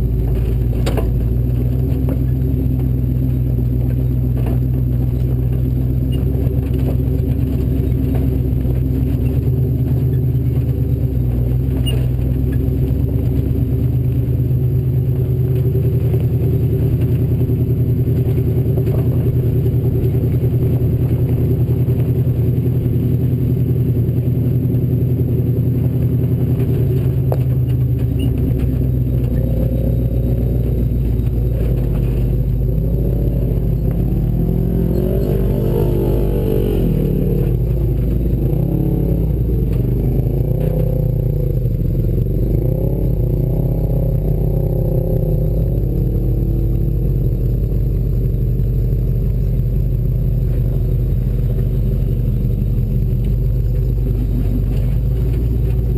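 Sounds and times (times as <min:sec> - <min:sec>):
clatter and clicks: 0:00.0 - 0:55.9
truck engine running: 0:00.0 - 0:55.9.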